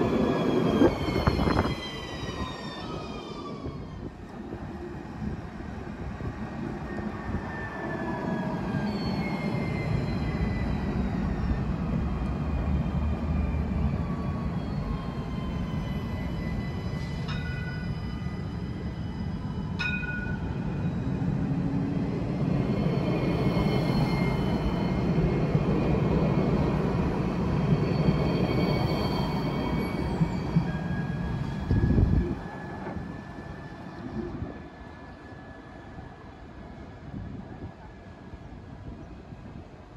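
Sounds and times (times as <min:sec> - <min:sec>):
tram wheels rumbling on rails: 0:00.0 - 0:39.5.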